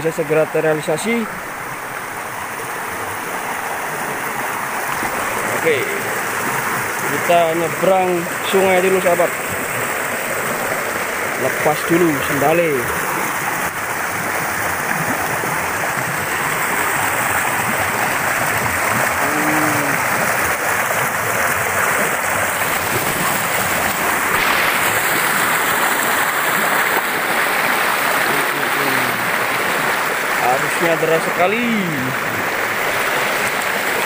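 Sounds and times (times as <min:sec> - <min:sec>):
river rushing over stones: 0:00.0 - 0:34.0.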